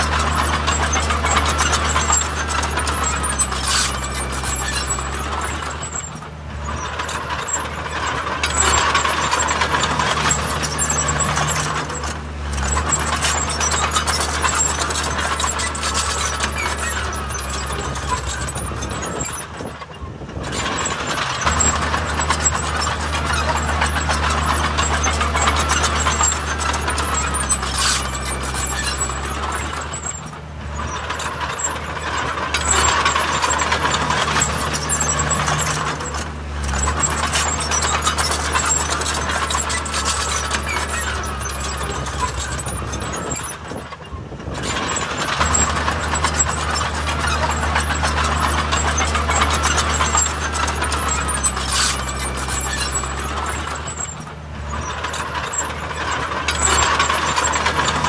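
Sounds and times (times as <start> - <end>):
diesel machinery engine: 0.0 - 58.0
rattling and clanking: 0.0 - 58.0.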